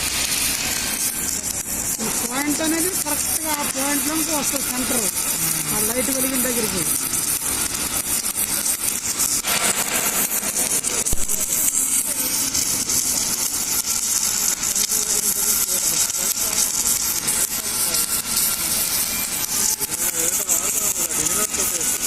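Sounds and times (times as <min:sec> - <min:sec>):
welding hiss with crackling: 0:00.0 - 0:22.0.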